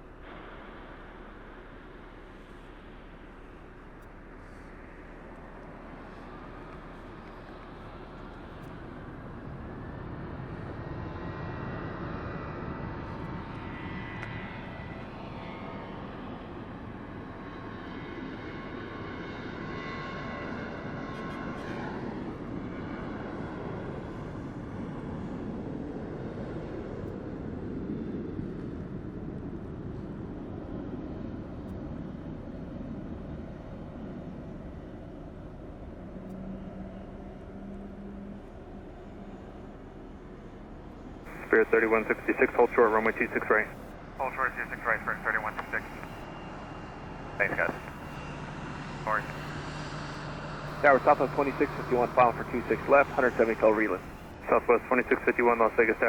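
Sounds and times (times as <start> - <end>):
jet engine rumble: 0.0 - 18.3, 26.7 - 56.0
jet engine whine: 0.0 - 56.0.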